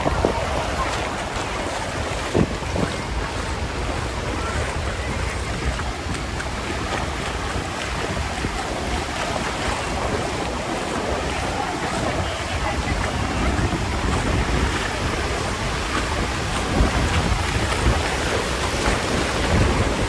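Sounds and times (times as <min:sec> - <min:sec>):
surf washing onto beach: 0:00.0 - 0:20.0
wind rumbling on microphone: 0:00.0 - 0:20.0.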